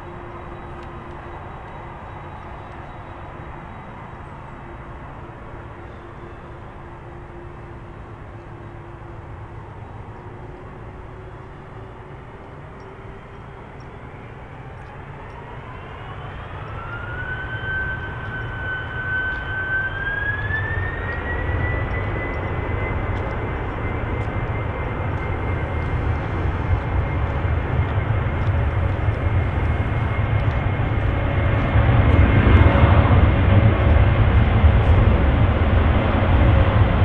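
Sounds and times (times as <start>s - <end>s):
jet engine whine rising: 0.0s - 37.0s
low engine rumble: 0.0s - 37.0s.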